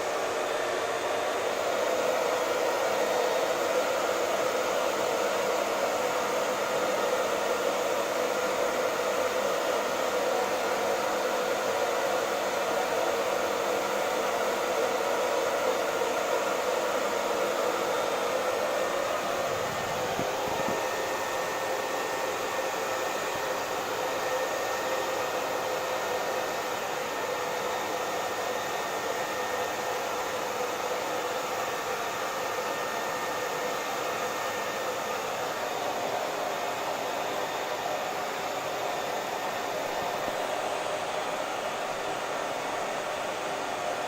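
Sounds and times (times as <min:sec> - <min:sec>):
hair dryer running: 0:00.0 - 0:44.0.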